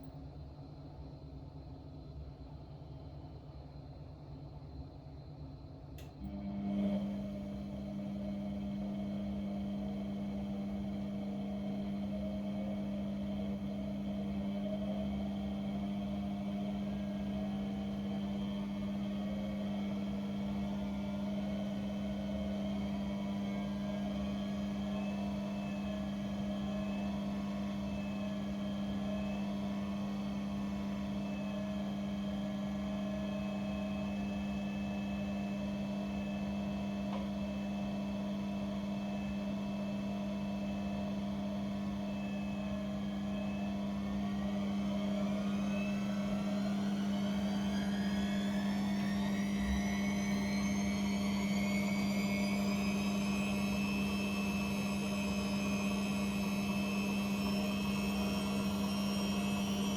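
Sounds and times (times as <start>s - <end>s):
washing machine motor hum: 6.0s - 59.9s.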